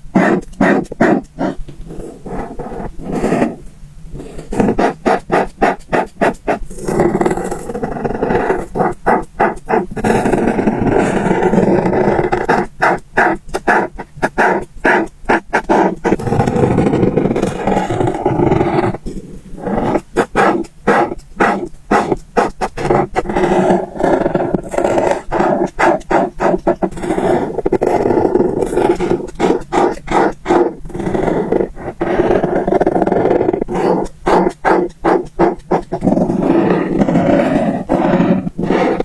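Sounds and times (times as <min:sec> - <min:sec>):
marker pen scratching on paper: 0:00.0 - 0:39.0.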